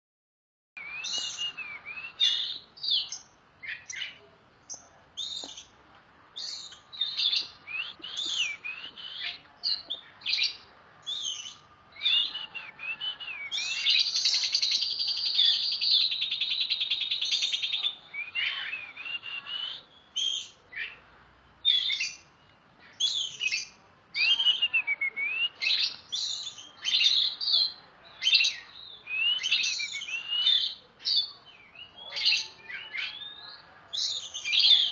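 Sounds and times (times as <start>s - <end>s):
bird whistled song: 0.8s - 5.7s, 6.4s - 21.0s, 21.6s - 34.9s.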